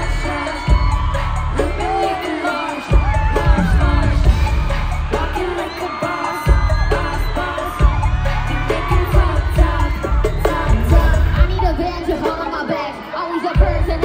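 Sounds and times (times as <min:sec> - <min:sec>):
heavy bass backing track: 0:00.0 - 0:12.7, 0:13.6 - 0:14.0
person singing: 0:00.0 - 0:14.0.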